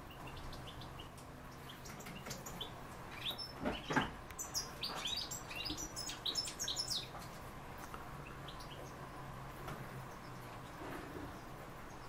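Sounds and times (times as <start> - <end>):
parrotlets chirping: 0.0 - 7.4, 8.1 - 9.3, 10.0 - 12.0.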